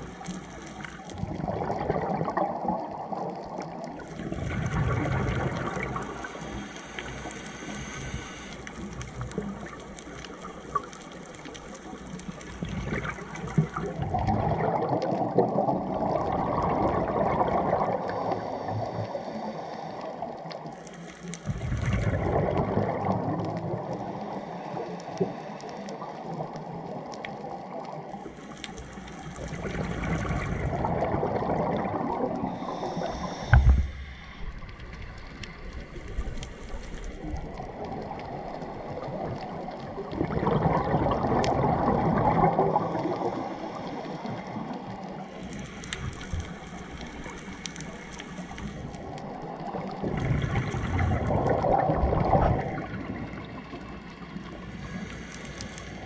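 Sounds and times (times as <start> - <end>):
scuba exhaled bubbles underwater: 0.0 - 56.0.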